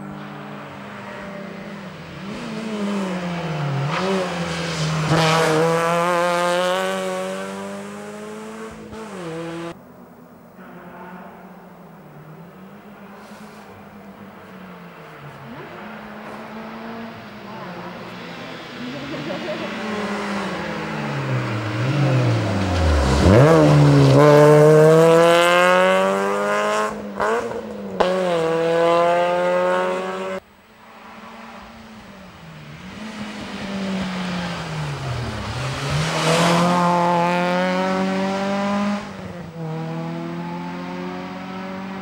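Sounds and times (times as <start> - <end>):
rally cars passing at full throttle: 0.0 - 42.0.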